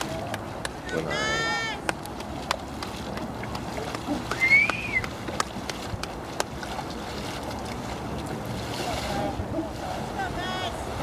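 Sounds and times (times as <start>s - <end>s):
kayak paddles splashing water: 0.0s - 11.0s
outdoor noise: 0.0s - 11.0s.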